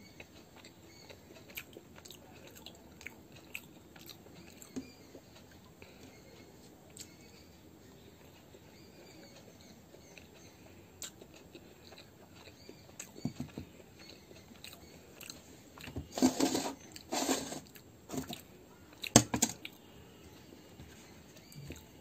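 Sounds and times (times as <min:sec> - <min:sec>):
person chewing food: 0:00.0 - 0:06.2, 0:08.2 - 0:19.8, 0:21.4 - 0:22.0.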